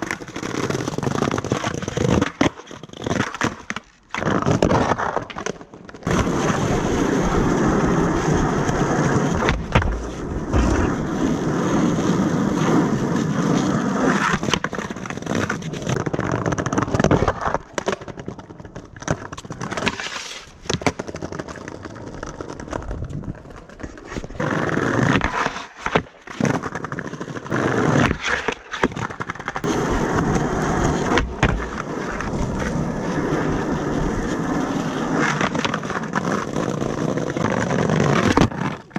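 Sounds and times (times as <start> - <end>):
skateboard clacks: 0.0 - 38.9
skateboard wheels rumbling: 0.0 - 38.9.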